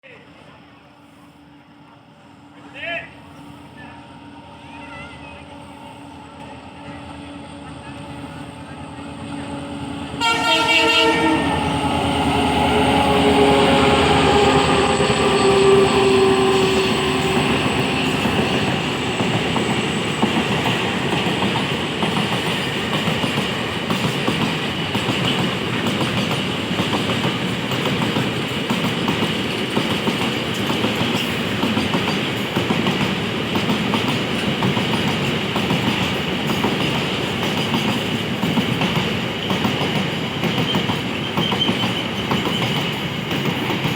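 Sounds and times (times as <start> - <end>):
diesel locomotive passing: 0.2 - 43.9
train coaches clattering on rails: 6.3 - 43.9.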